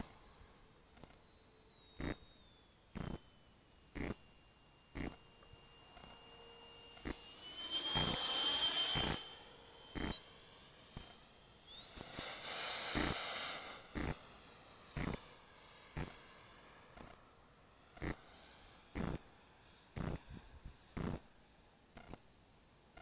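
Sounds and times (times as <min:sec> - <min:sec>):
model jet whining past: 0:00.0 - 0:23.0.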